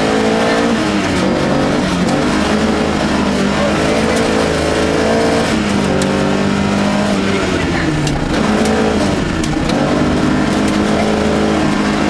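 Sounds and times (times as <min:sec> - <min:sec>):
car engine at full throttle: 0:00.0 - 0:12.0
gravel road noise: 0:00.0 - 0:12.0.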